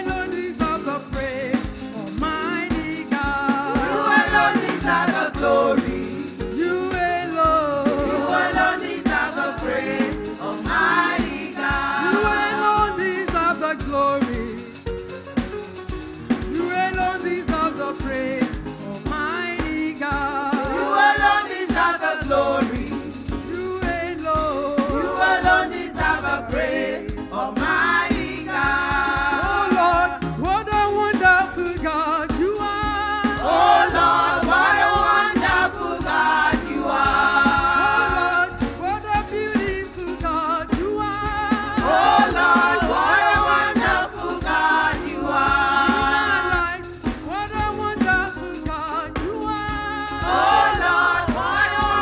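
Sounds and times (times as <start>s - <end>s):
rattling hand percussion: 0.0s - 27.0s, 27.6s - 29.8s, 30.6s - 52.0s
band accompaniment: 0.0s - 52.0s
voices singing gospel: 0.0s - 52.0s.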